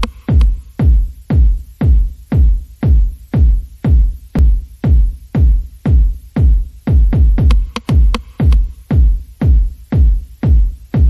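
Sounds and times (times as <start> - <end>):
electronic dance music: 0.0 - 11.0
heavy kick drum: 0.0 - 11.0.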